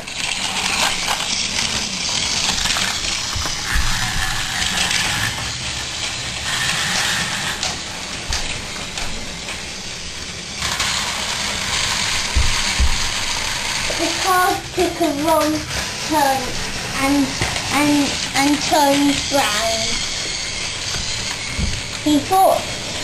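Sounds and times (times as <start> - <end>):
toy train rattling and whirring: 0.0 - 23.0.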